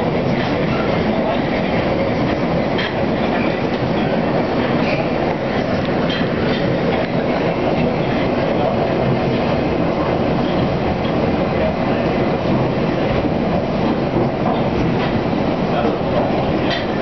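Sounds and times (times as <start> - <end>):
train wheels on rail in tunnel: 0.0 - 17.0.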